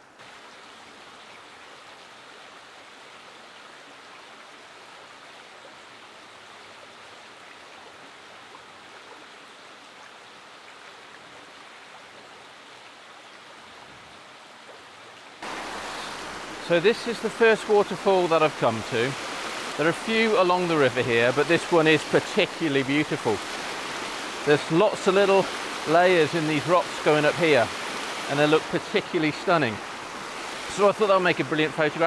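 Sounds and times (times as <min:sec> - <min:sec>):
small cascading waterfall: 0:00.0 - 0:32.0
shallow rocky river rushing: 0:01.8 - 0:32.0.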